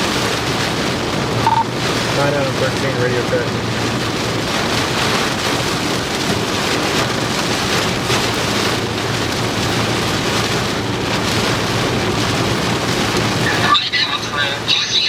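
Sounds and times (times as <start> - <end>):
heavy rain on vehicle: 0.0 - 15.0.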